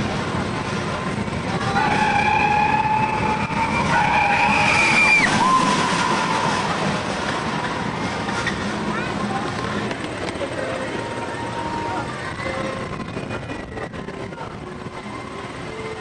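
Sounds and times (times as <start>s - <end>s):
roller coaster high-pitched squealing: 0.0s - 16.0s
roller coaster rumble: 0.0s - 16.0s.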